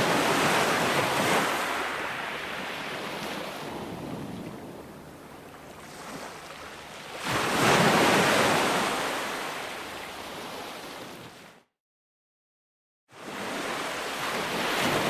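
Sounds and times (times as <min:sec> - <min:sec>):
ocean waves breaking: 0:00.0 - 0:11.6, 0:13.2 - 0:15.0.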